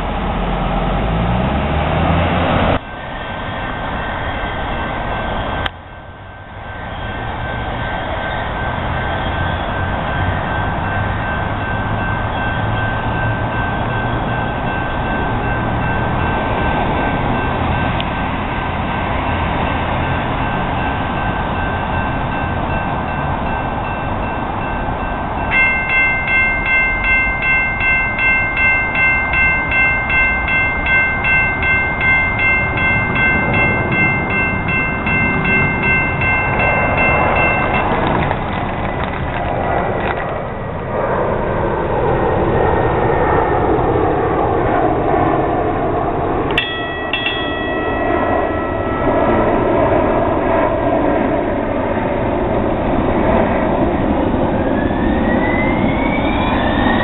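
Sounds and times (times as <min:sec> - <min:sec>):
steady low rumble: 0:00.0 - 0:57.0
crossing warning bell ringing: 0:02.8 - 0:40.4, 0:42.3 - 0:57.0.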